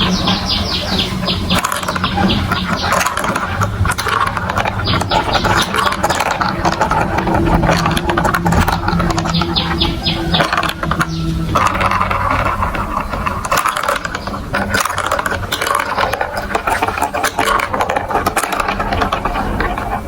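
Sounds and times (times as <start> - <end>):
marbles rolling and clattering: 0.0 - 20.0.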